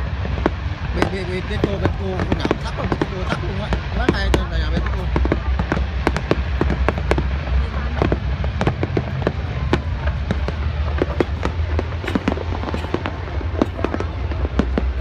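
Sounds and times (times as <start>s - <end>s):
fireworks bangs and pops: 0.0s - 15.0s
steady low rumble: 0.0s - 15.0s.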